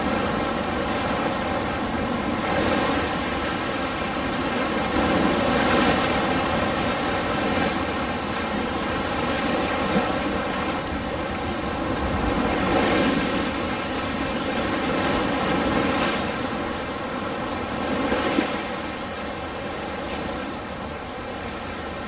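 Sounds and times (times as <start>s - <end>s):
ocean waves washing on shore: 0.0s - 22.0s.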